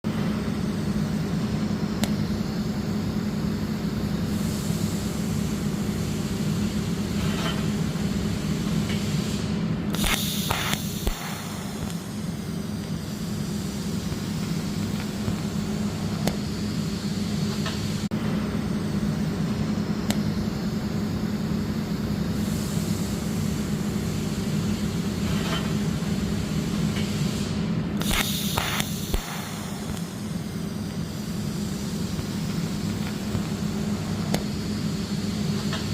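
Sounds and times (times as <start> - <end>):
low machine hum: 0.0 - 35.9
arc welding hiss: 0.1 - 35.9.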